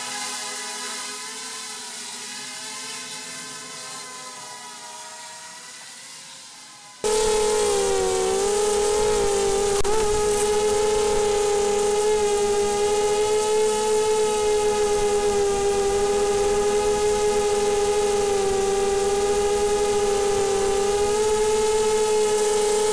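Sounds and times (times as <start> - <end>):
quadcopter motors whining: 0.0 - 22.9.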